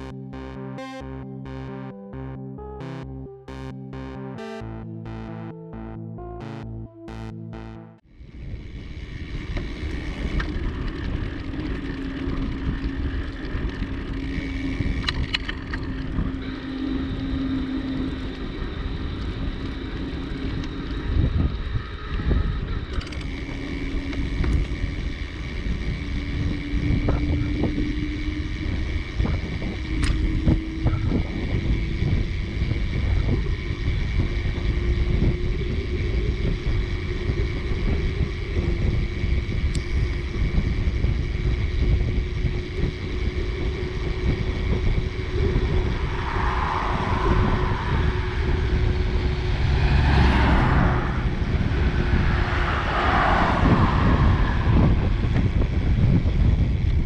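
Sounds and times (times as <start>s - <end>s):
steady hum rising in pitch: 0.0s - 57.0s
bicycle tyres rolling: 8.2s - 57.0s
wind buffeting microphone: 8.2s - 57.0s.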